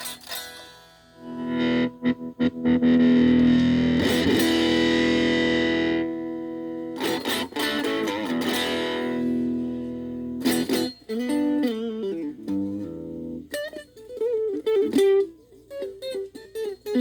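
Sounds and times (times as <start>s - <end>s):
electric guitar chords strummed: 0.0s - 17.0s.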